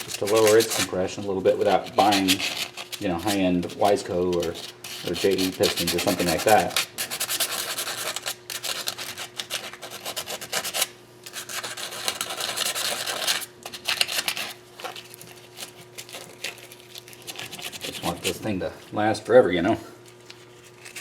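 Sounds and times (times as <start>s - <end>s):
scrubbing metal engine part: 0.0s - 18.7s.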